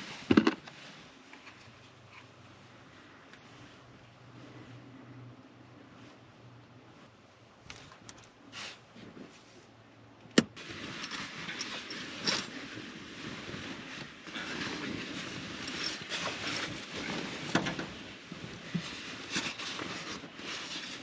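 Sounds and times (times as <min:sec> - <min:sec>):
continuous rustling: 0:00.0 - 0:21.0.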